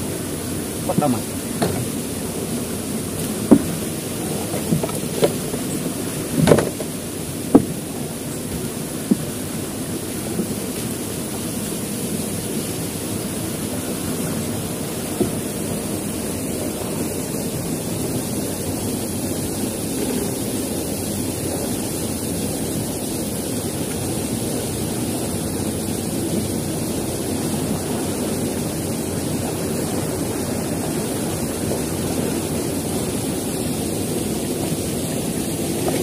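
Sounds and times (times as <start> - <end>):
water rushing through sluice gate: 0.0 - 36.0.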